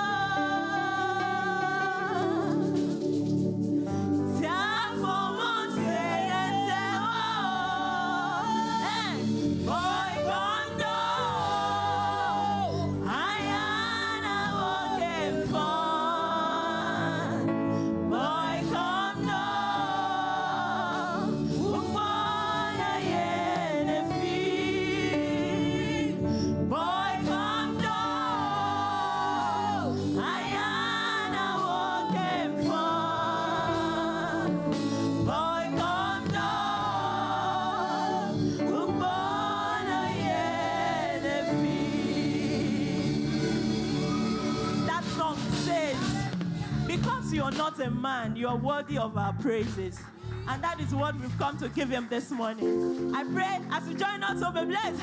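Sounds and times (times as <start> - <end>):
voices singing gospel: 0.0 - 47.9, 51.0 - 55.0
instrumental backing: 0.0 - 48.2.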